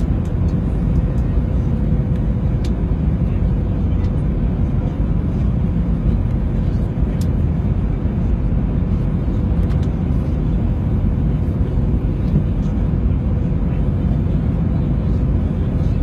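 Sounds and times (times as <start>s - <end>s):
engine rumble and rushing air: 0.0s - 16.0s.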